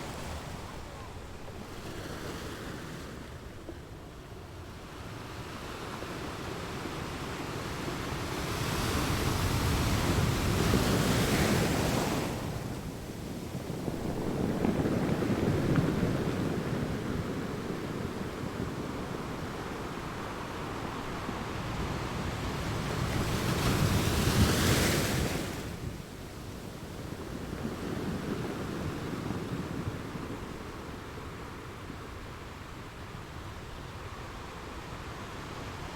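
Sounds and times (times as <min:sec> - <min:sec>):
ocean waves surf: 0:00.0 - 0:35.9.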